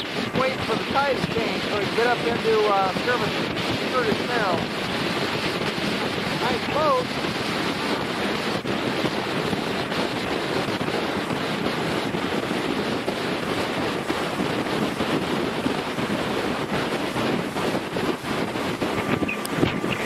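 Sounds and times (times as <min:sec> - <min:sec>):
boat motor: 0:00.0 - 0:20.0
water: 0:00.0 - 0:20.0
wind noise on microphone: 0:00.0 - 0:20.0.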